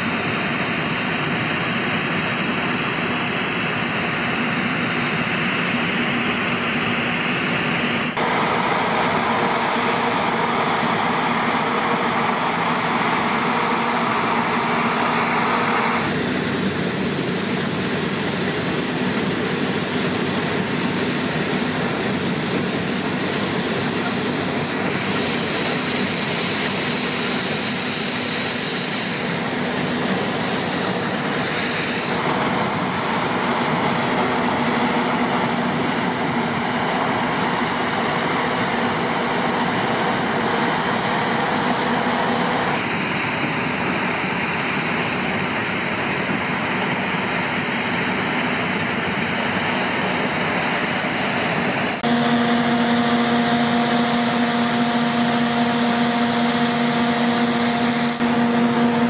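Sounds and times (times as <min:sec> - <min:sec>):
combine harvester engine drone: 0:00.0 - 0:59.0
grain auger humming: 0:00.0 - 0:59.0.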